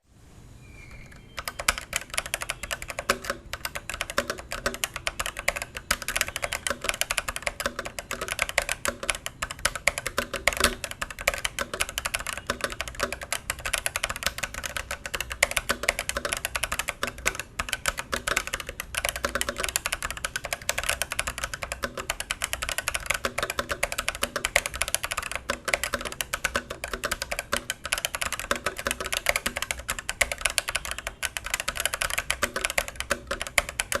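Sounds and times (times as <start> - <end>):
fast typing on mechanical keyboard: 1.1 - 34.0.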